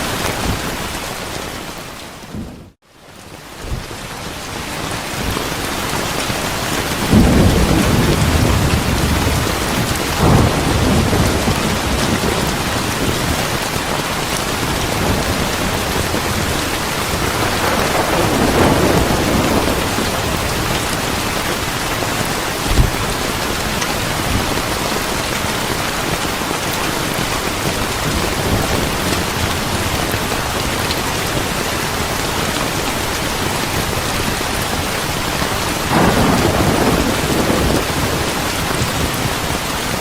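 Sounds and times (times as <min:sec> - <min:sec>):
heavy rain: 0:00.0 - 0:40.0
thunder rumbling: 0:06.4 - 0:40.0.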